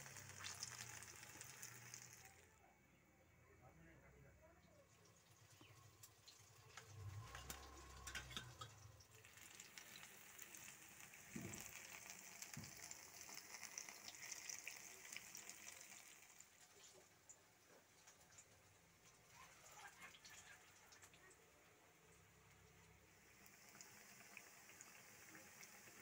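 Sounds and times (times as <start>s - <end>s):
food deep-frying in hot oil: 0.0s - 2.6s, 4.6s - 26.0s.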